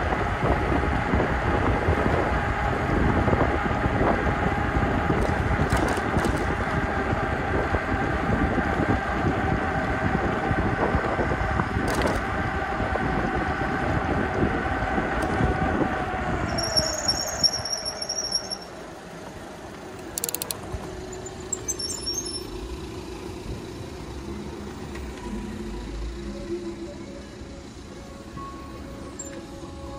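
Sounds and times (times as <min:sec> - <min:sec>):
wind and wet road noise: 0:00.0 - 0:29.9.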